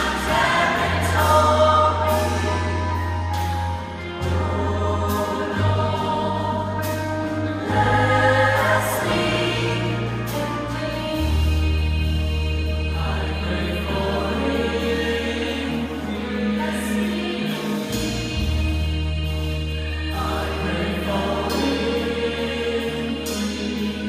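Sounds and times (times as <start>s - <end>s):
gospel choir singing: 0.0s - 24.0s.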